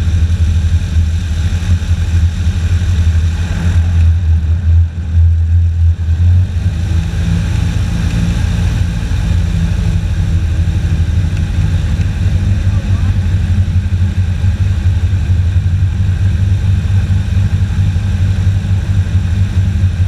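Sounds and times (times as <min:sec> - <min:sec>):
airboat engine drone: 0:00.0 - 0:20.0.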